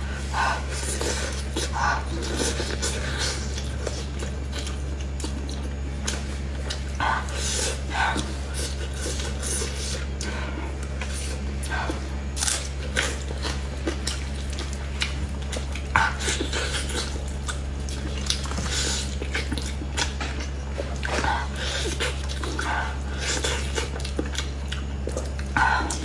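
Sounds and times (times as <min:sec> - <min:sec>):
person chewing meat: 0:00.0 - 0:26.0
steady low hum: 0:00.0 - 0:26.0.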